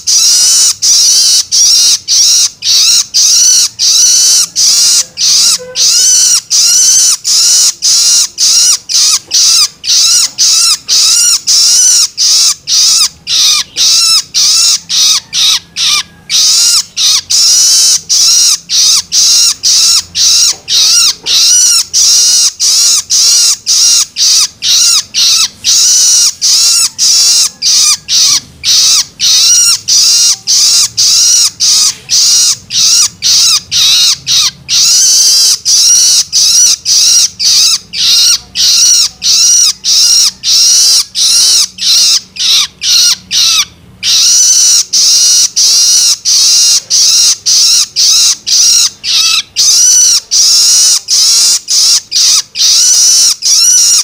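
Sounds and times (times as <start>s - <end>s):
young bird harsh begging calls: 0.0s - 54.0s.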